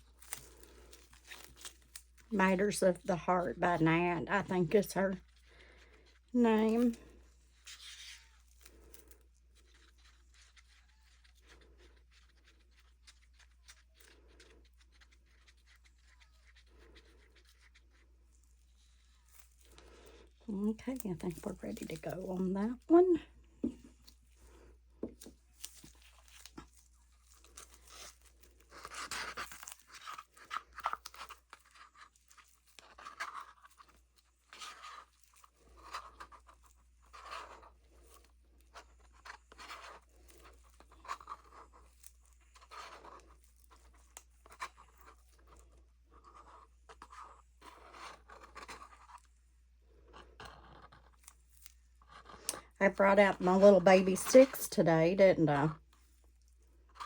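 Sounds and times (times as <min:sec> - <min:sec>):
plastic cups scraping and crackling: 0:00.0 - 0:57.0.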